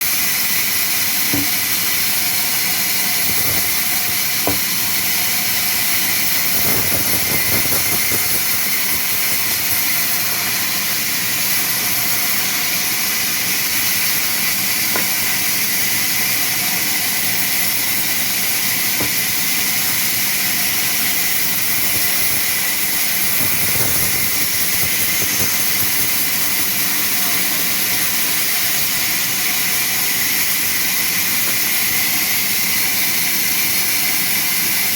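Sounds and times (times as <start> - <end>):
sawmill saw high hiss: 0.1 - 34.9.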